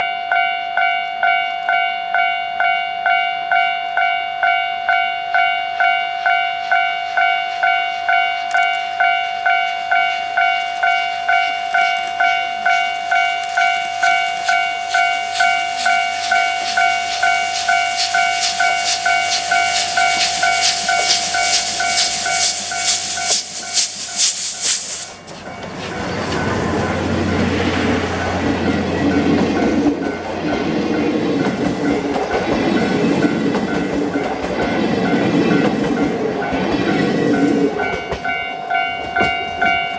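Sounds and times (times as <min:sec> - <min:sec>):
level crossing warning bell: 0:00.0 - 0:39.9
steam locomotive chuffing: 0:04.9 - 0:39.9.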